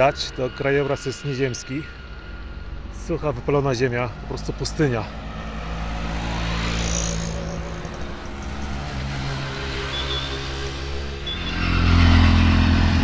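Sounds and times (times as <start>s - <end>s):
vehicle approaching: 0.0s - 13.0s
vehicle engines running: 0.0s - 13.0s.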